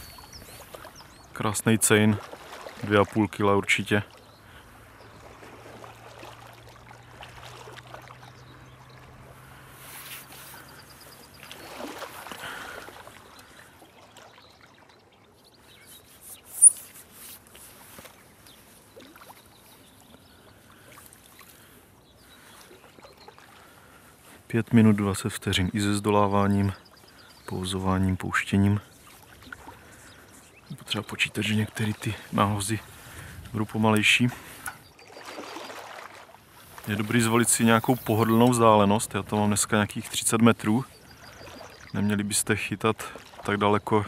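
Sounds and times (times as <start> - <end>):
water splashing and trickling: 0.0 - 44.0.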